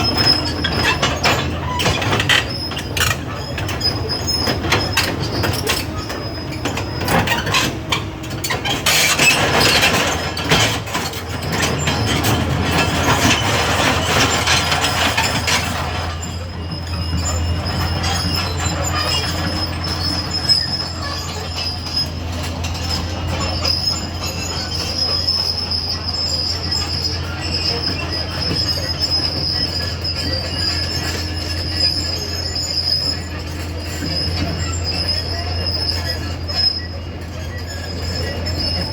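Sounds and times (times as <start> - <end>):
excavator engine running: 0.0 - 38.9
high metallic squeal: 0.0 - 38.9
steel crawler tracks clanking: 0.0 - 38.9.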